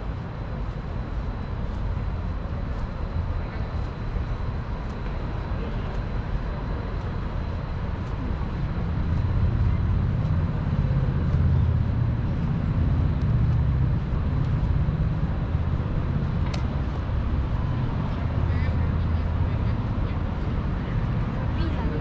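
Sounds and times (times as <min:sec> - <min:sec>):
city street noise: 0:00.0 - 0:22.0
vehicle engine rumble: 0:00.0 - 0:22.0.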